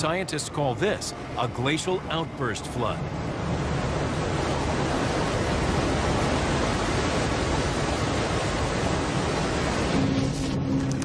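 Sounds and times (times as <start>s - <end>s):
rushing churning water: 0.0s - 11.0s.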